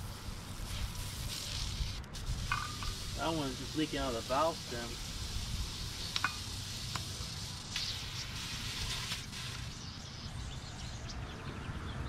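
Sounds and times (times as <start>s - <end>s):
compressed air hissing: 0.0s - 10.5s.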